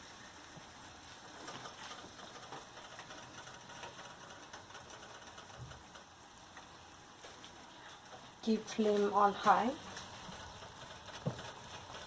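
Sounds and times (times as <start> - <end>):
curry bubbling and popping: 0.0 - 12.0
steady hiss: 0.0 - 12.0.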